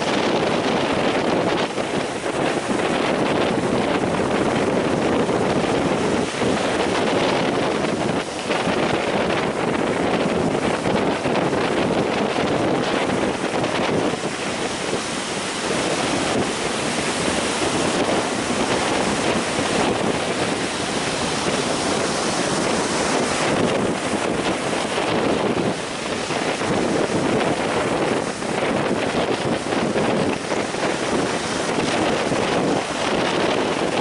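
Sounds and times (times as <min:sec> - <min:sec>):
surf breaking ashore: 0:00.0 - 0:34.0
wind blowing over microphone: 0:00.0 - 0:34.0.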